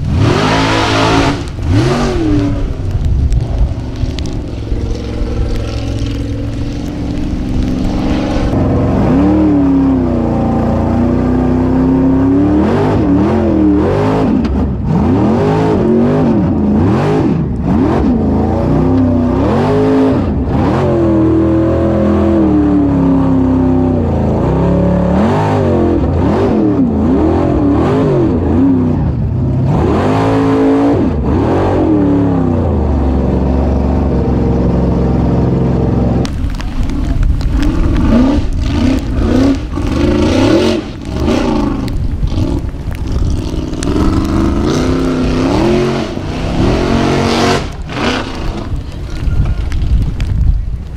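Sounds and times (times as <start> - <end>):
buggy engine revving hard: 0.0 - 36.3, 37.4 - 49.2.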